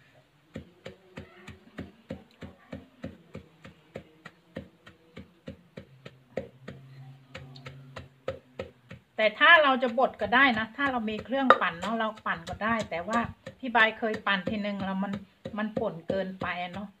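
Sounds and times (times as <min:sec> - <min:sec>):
pestle pounding in clay mortar: 0:00.4 - 0:17.0.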